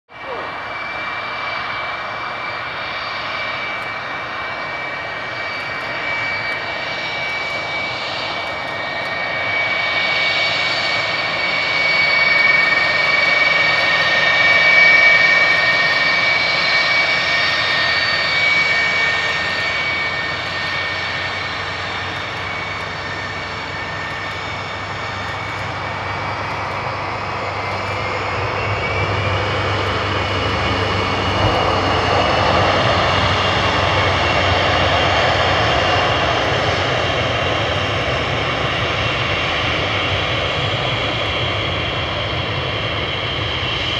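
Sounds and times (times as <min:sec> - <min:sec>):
jet engines whining: 0:00.1 - 0:43.9.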